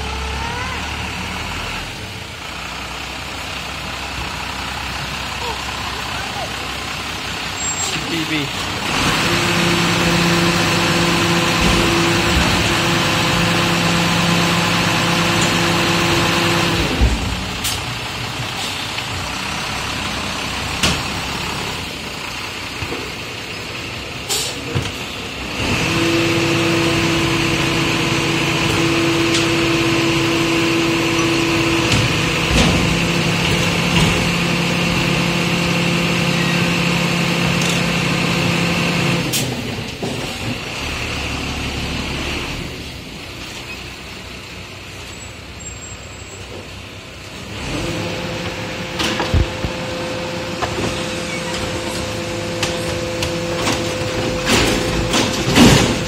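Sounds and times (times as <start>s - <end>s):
garbage truck engine drone and whine: 0.0s - 56.0s.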